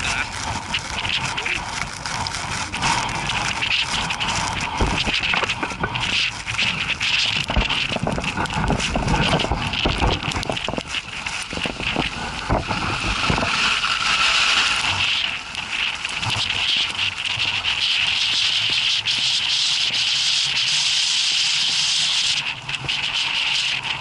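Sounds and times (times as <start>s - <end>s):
wind buffeting microphone: 0.0s - 19.9s
steady hiss: 0.0s - 24.0s.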